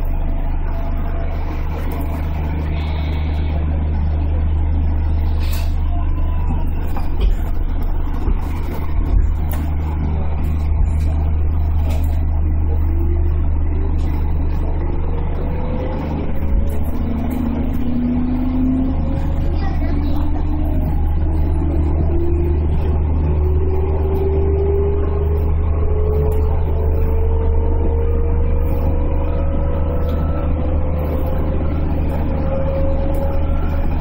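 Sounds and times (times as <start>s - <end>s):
electric train motors humming: 0.0s - 34.0s.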